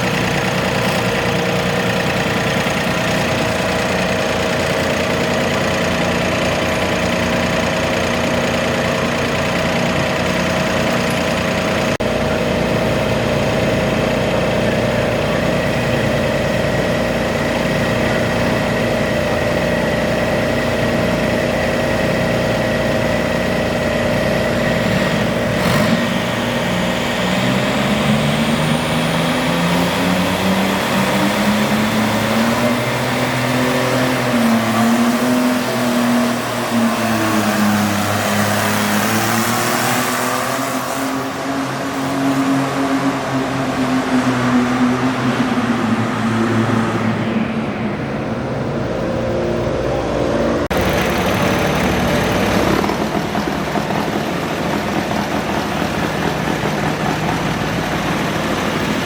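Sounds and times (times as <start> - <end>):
tractor engine running and revving: 0.0 - 59.0.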